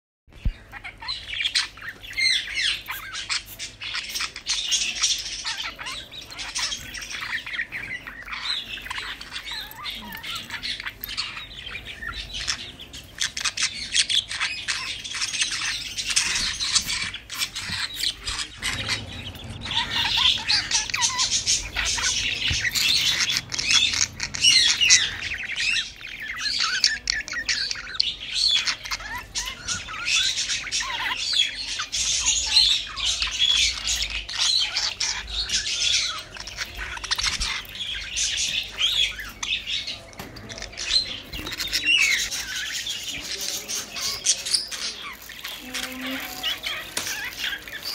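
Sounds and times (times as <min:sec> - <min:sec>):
budgerigars chattering: 0:00.4 - 0:47.9.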